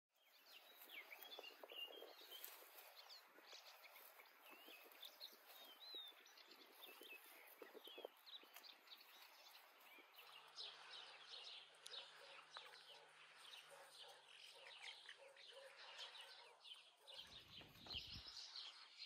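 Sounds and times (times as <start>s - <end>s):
birds chirping and whistling: 0.2s - 19.0s.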